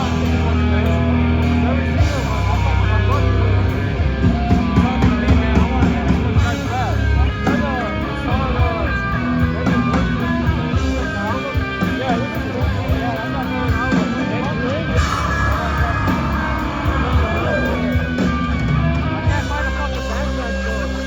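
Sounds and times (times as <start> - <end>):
bending guitar notes: 0.0 - 21.0
death metal band playing: 0.0 - 21.0.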